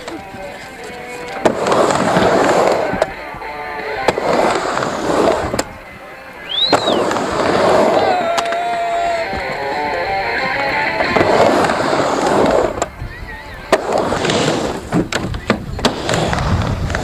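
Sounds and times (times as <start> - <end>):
music: 0.0 - 15.6
skateboard clacks: 0.0 - 17.0
skateboard wheels rolling on ramp: 0.0 - 17.0.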